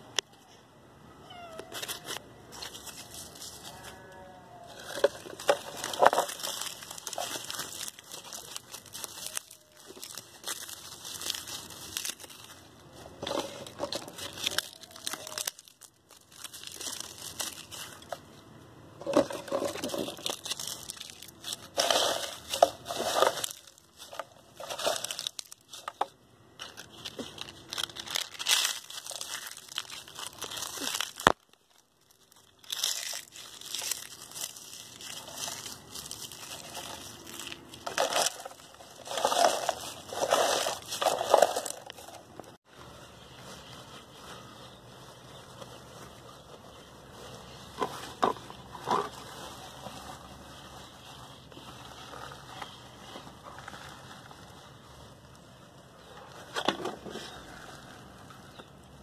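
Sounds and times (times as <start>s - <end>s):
dry leaves rustling and crackling: 1.4s - 59.0s.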